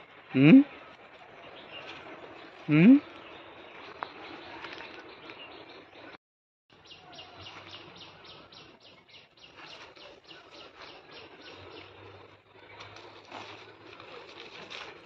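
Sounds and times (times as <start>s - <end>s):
bird chirping: 0.2s - 13.6s.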